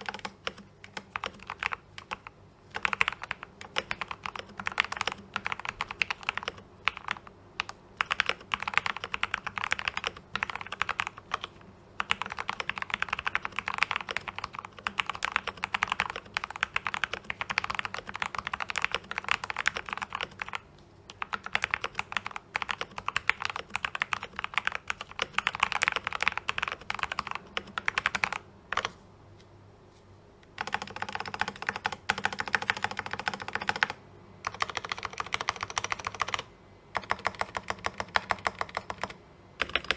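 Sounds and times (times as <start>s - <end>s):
fast typing on mechanical keyboard: 0.0s - 28.9s, 30.6s - 39.9s.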